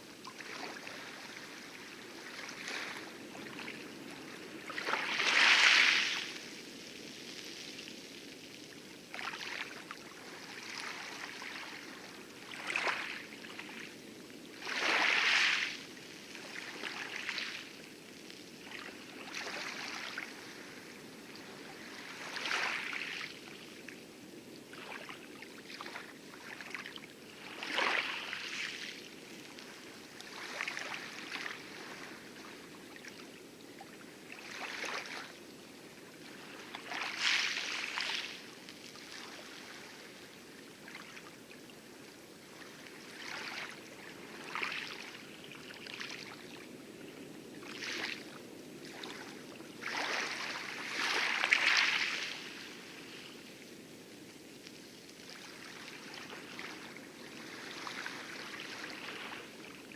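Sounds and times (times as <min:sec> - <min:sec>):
waves lapping on coral: 0:00.0 - 0:59.9.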